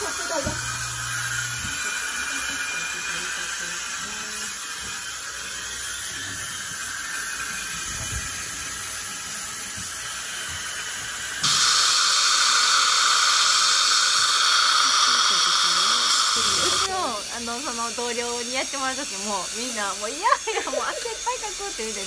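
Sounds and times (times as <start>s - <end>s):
dental air-polisher hissing: 0.0s - 22.0s.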